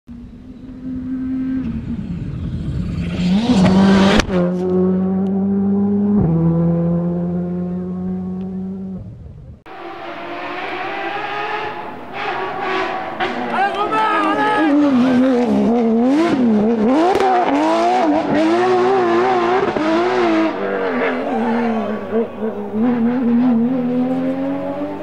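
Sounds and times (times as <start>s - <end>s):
race car engine revving: 0.6s - 9.1s, 9.7s - 25.0s.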